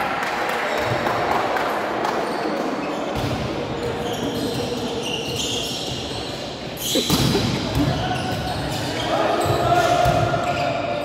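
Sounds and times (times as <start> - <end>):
voices in a hall: 0.0 - 11.0.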